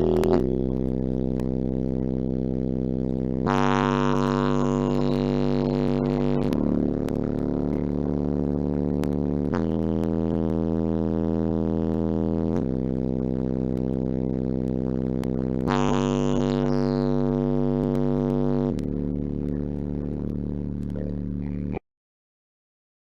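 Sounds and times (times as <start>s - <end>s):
deep bass subwoofer notes: 0.0s - 21.8s.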